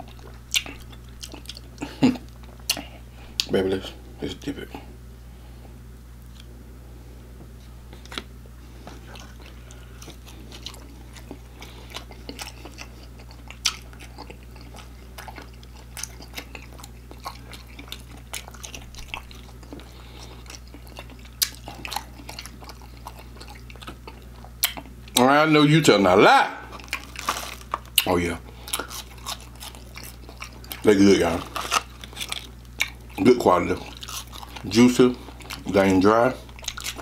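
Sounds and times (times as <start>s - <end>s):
crunchy chewing: 0.0s - 3.5s, 7.9s - 25.2s, 26.6s - 37.0s.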